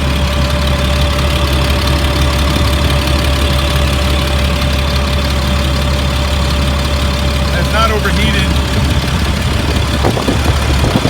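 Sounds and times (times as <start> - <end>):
diesel engine idling: 0.0 - 11.0
steady whine: 0.0 - 11.0.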